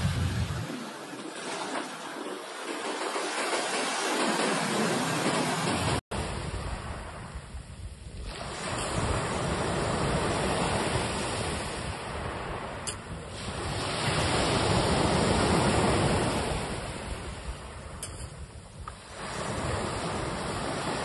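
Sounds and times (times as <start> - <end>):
ocean waves surging and washing back: 0.0 - 21.0.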